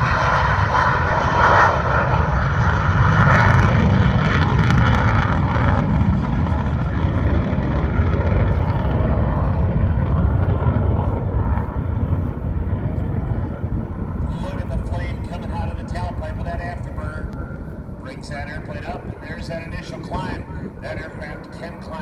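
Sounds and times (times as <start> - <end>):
jet engine roaring: 0.0 - 22.0.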